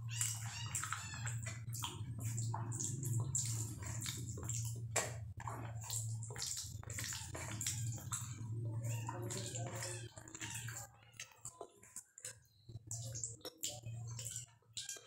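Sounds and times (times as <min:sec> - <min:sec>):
chewing: 0:00.0 - 0:15.0
fingers squishing wet rice: 0:00.0 - 0:15.0.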